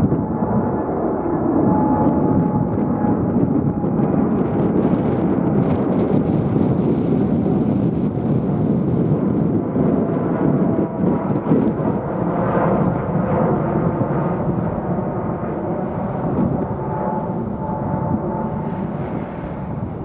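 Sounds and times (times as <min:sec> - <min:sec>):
jet engines roaring overhead: 0:00.0 - 0:20.0.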